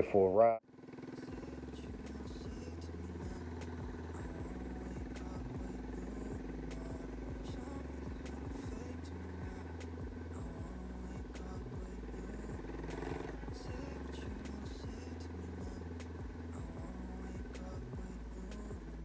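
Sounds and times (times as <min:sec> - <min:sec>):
minibike engine running: 0:00.7 - 0:19.0.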